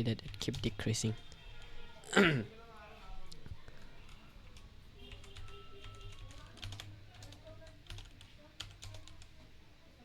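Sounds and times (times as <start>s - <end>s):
faint music: 0.0s - 10.0s.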